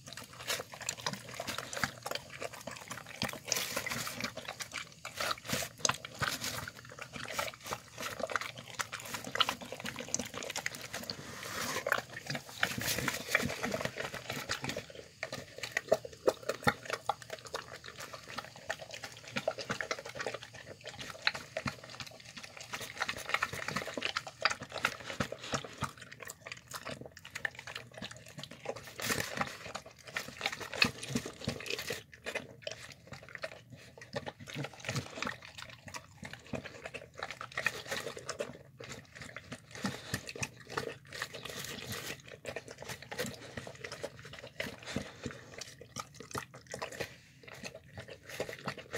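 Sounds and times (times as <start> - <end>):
dog licking and lapping food: 0.0 - 48.9.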